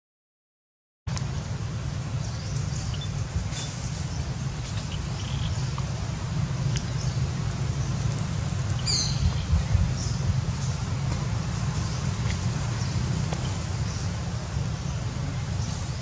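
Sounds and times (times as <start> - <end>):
steady low rumble: 1.1 - 16.0.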